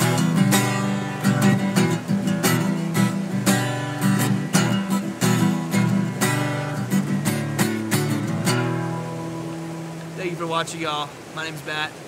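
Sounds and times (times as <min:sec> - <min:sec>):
acoustic guitar strumming: 0:00.0 - 0:10.8.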